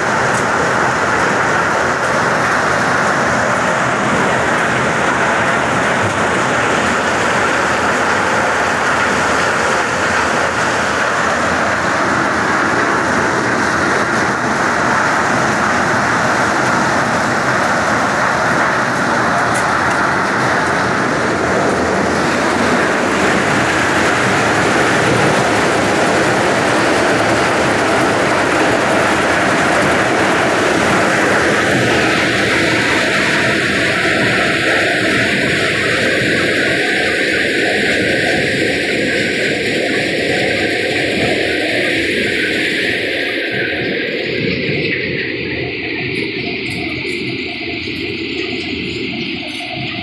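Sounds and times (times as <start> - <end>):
maize sheller machine running: 0.0 - 50.0.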